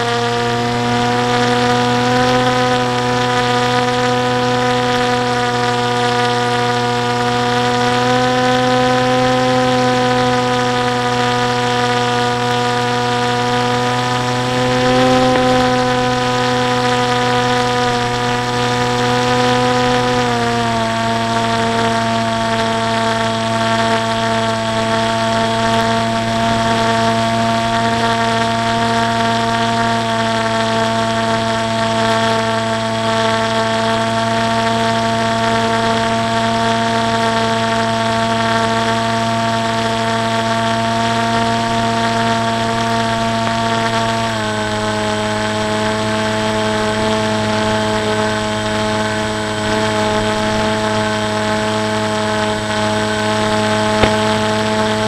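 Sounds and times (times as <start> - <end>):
electric motor and propeller whine: 0.0 - 55.0.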